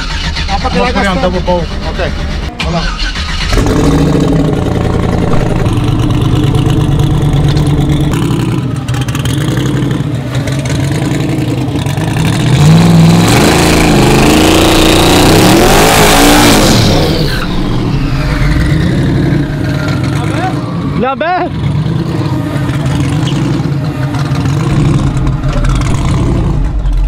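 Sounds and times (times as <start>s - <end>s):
truck engine revving: 0.0s - 27.0s.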